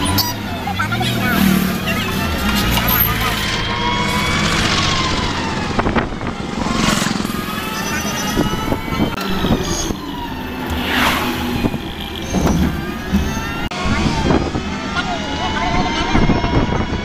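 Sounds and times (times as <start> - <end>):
passing traffic swishing: 0.0 - 17.0
vehicle engine and road noise: 0.0 - 17.0.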